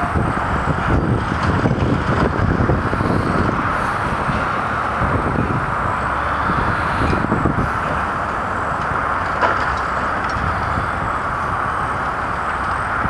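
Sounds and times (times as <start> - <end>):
distant highway traffic: 0.0 - 13.0
wind gusting on microphone: 0.0 - 13.0.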